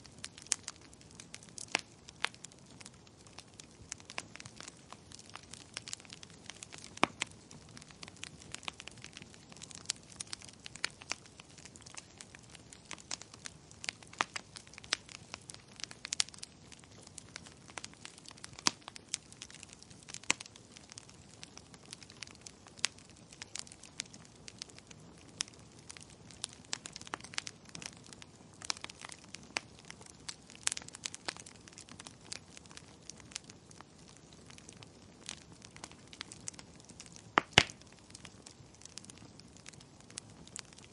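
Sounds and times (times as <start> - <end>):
firewood crackling: 0.0 - 40.9.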